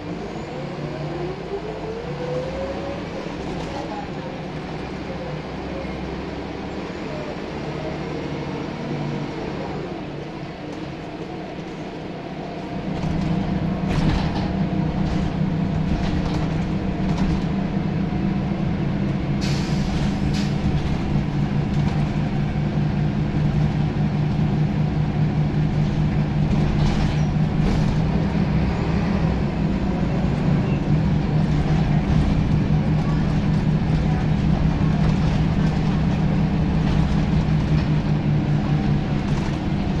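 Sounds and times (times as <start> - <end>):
bus diesel engine accelerating: 0.0 - 40.0.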